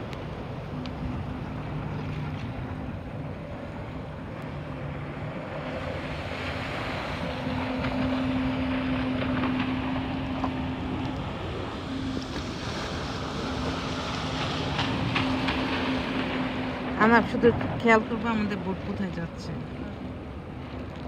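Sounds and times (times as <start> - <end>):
jet ski engine running: 0.0 - 21.0
wind buffeting microphone: 0.0 - 21.0.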